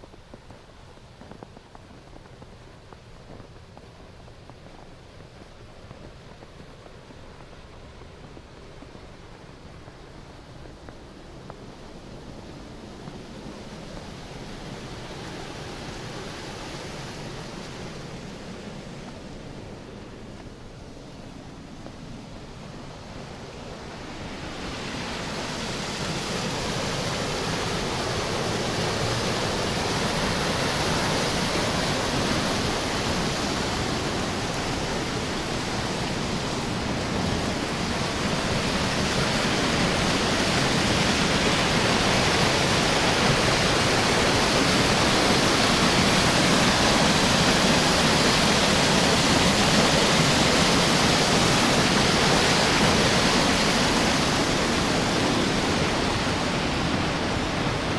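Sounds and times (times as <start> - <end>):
water rushing through sluice: 0.0 - 57.9.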